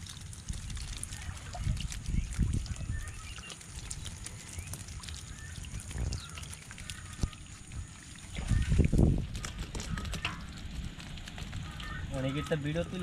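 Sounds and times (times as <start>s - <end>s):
rush of water: 0.0s - 13.0s
small fish flapping in a basin: 0.0s - 13.0s
water trickling: 0.0s - 13.0s.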